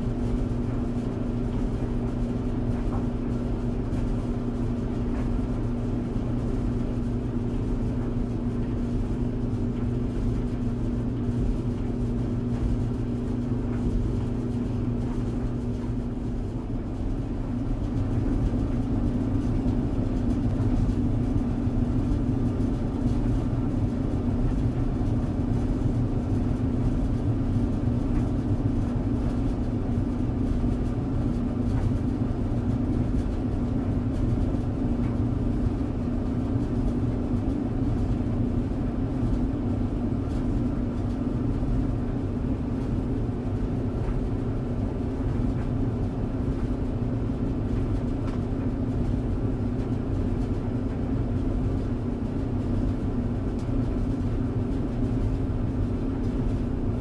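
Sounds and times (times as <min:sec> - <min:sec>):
tumble dryer running: 0:00.0 - 0:57.0.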